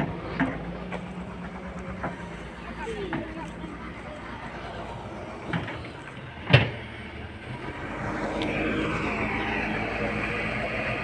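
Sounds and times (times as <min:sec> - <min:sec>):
excavator engine revving: 0:00.0 - 0:11.0.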